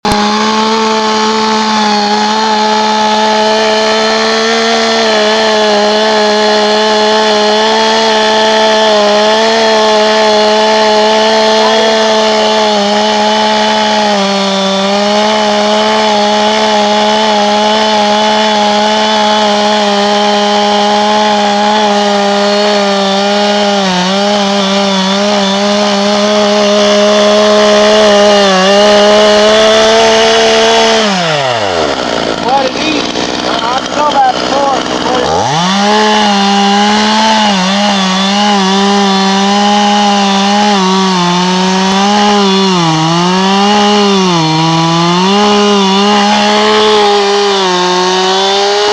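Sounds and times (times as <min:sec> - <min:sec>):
chainsaw engine running: 0:00.0 - 0:48.9.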